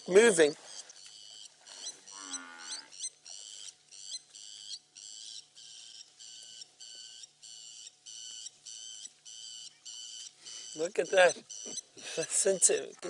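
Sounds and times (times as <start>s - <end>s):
bird metallic alarm call: 0.0s - 13.0s.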